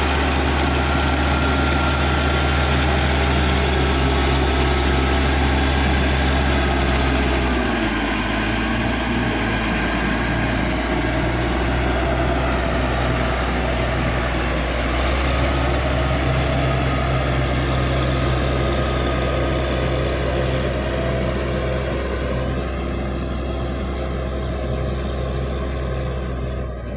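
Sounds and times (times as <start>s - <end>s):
bulldozer diesel engine running: 0.0s - 26.9s.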